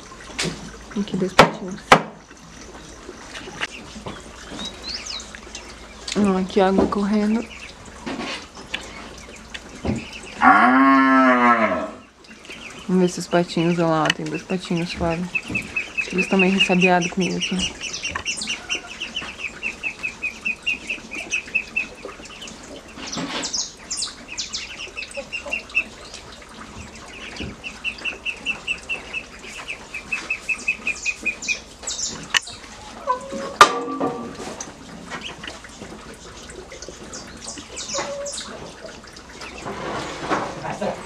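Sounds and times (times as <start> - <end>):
ducklings peeping: 0.5 - 10.6, 11.9 - 33.6, 34.9 - 39.8.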